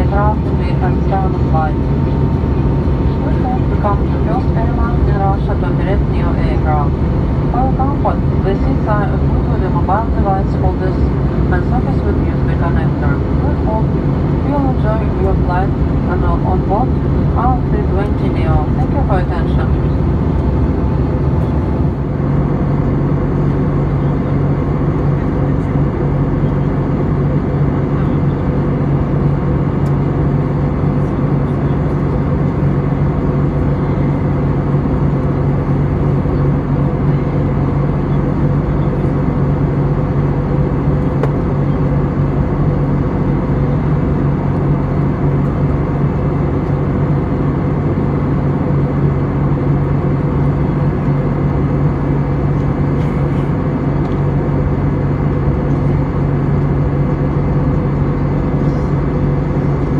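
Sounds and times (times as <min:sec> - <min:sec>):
airplane cabin engine rush: 0:00.0 - 0:59.9
strong low hum: 0:00.0 - 0:59.9.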